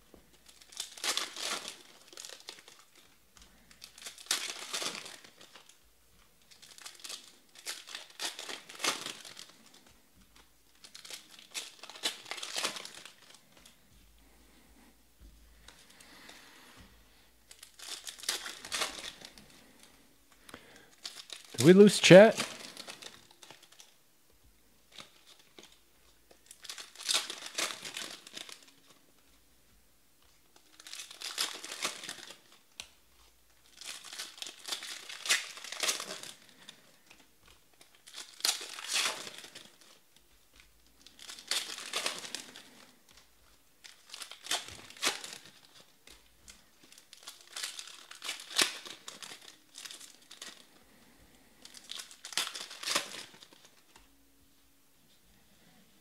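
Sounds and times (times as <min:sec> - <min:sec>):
wrappers tearing and crinkling: 0:00.2 - 0:05.8, 0:06.4 - 0:14.6, 0:15.6 - 0:24.0, 0:24.8 - 0:29.4, 0:30.2 - 0:54.2.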